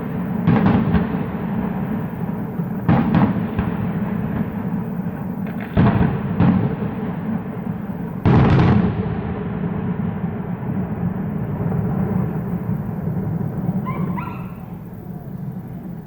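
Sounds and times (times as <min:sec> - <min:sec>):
fireworks booming: 0:00.0 - 0:16.0.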